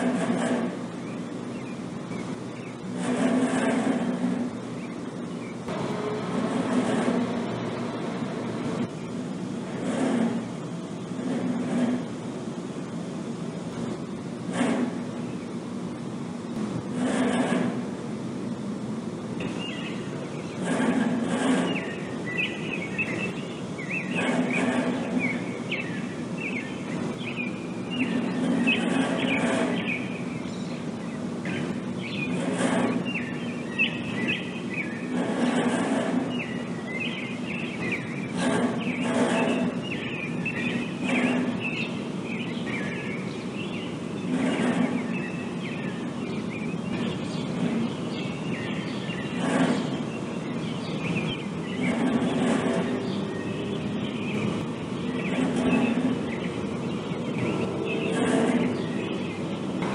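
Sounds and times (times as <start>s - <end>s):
small birds chirping: 0.0s - 5.9s, 6.5s - 16.1s, 19.4s - 59.9s
refrigeration units humming: 0.0s - 59.9s.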